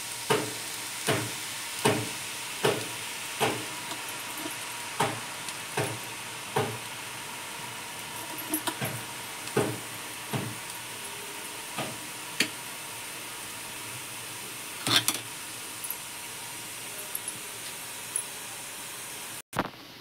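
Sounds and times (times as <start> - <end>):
noodles sizzling in hot oil: 0.0 - 20.0.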